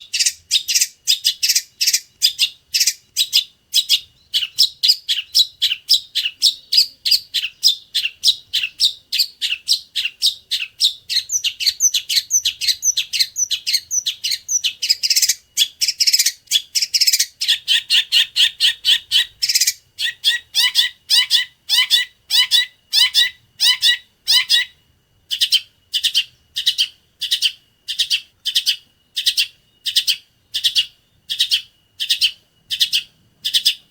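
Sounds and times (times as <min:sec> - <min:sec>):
bird singing sharp chirps: 0:00.0 - 0:33.9.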